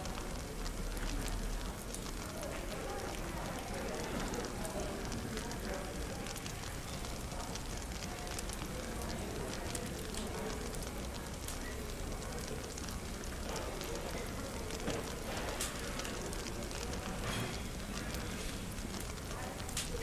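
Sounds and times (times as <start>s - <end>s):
indistinct cafe chatter: 0.0s - 20.0s
wood fire crackling and popping: 0.0s - 20.0s.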